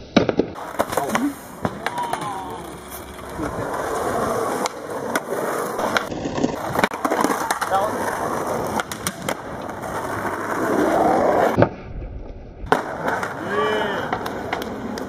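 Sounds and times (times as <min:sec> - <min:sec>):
skateboard wheels rolling on asphalt: 0:00.0 - 0:15.0
skateboard clacks: 0:00.1 - 0:11.7, 0:12.6 - 0:15.0.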